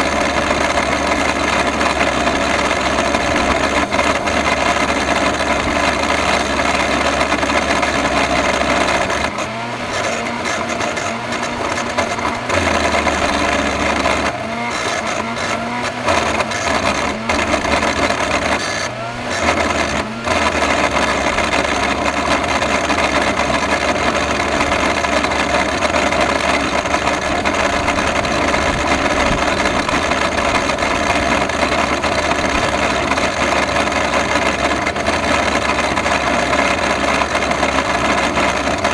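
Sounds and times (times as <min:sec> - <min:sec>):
vacuum cleaner motor droning: 0:00.0 - 0:38.9.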